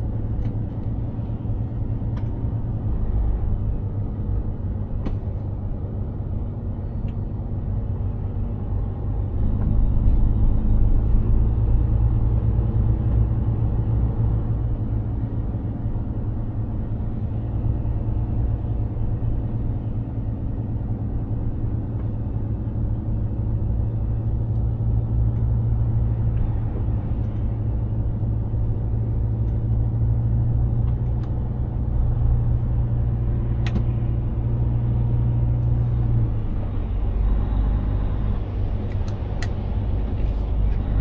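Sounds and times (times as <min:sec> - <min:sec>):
truck diesel engine droning: 0:00.0 - 0:41.0.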